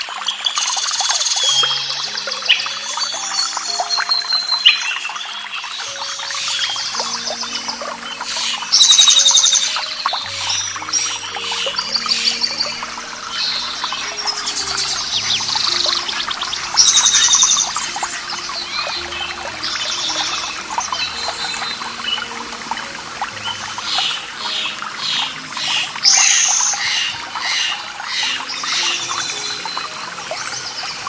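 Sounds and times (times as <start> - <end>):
birds singing: 0.0 - 31.0
trickling running water: 0.0 - 31.0.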